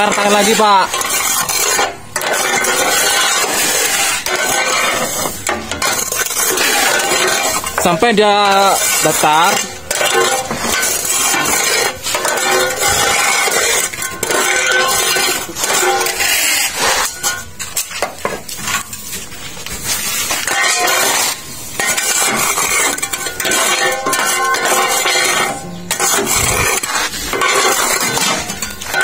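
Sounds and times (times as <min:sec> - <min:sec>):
scraper raking sand on steel: 0:00.0 - 0:29.0.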